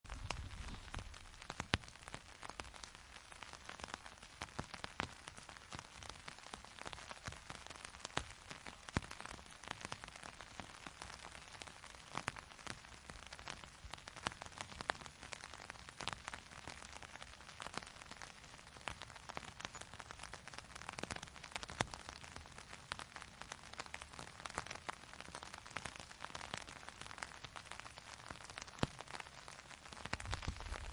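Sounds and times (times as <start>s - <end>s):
rain pattering on umbrella: 0.0s - 30.9s.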